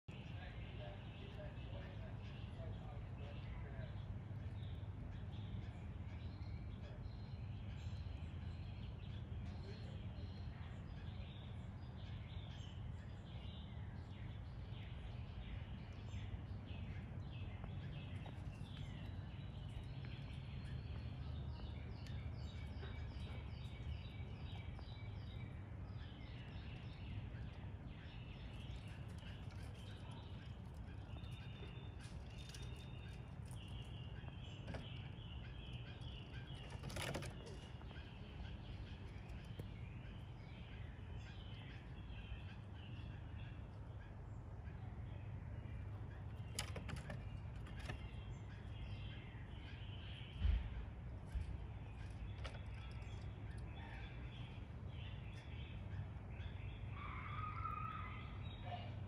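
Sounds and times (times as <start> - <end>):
steady low rumble: 0.0 - 36.8, 37.4 - 46.6, 47.2 - 57.0
birds chirping: 0.0 - 59.0.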